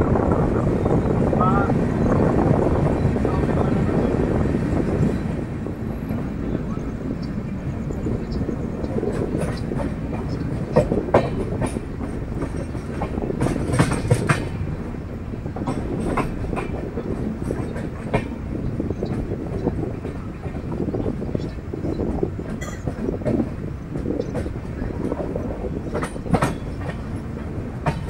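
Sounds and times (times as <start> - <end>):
passenger train rumbling: 0.0 - 28.0
wheels clicking over rail joints: 2.4 - 28.0.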